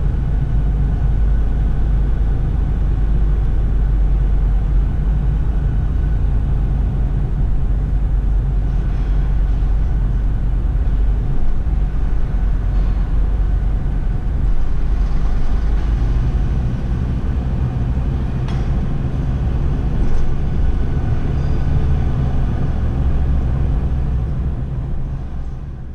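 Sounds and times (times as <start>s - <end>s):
car engine and tyre rumble: 0.0s - 25.9s.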